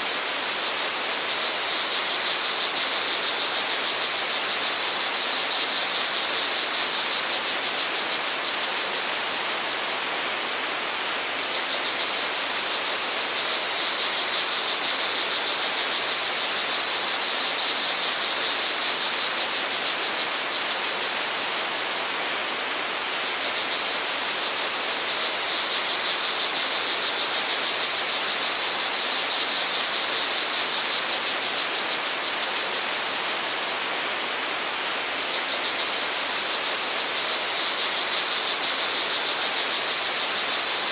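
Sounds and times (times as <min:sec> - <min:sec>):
crickets chirping: 0:00.1 - 0:40.9.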